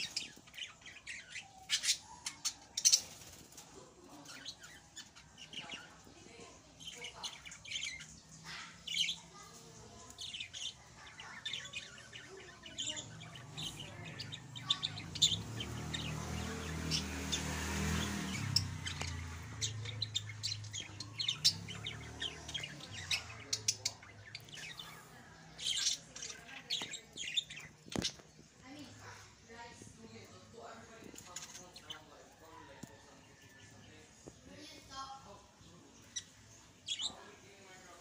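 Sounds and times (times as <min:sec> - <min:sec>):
budgerigars chirping: 0:00.0 - 0:34.4, 0:35.7 - 0:38.0.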